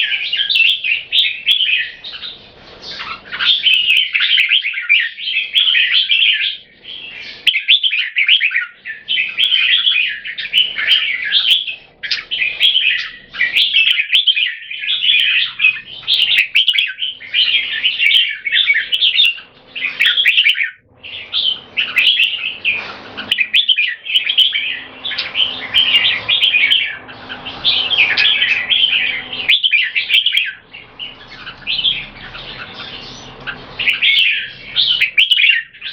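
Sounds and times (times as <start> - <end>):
bulbuls singing chirpy phrases: 0.0 - 35.9.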